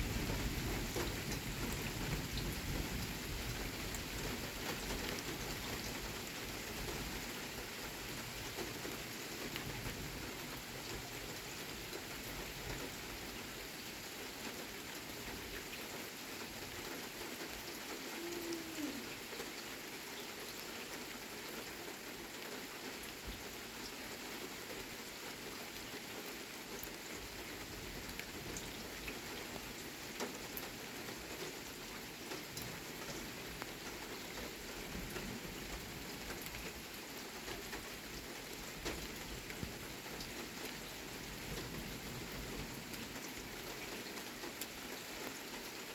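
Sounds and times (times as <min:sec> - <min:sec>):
raindrops hitting a surface: 0:00.0 - 0:45.9
steady rain falling: 0:00.0 - 0:45.9.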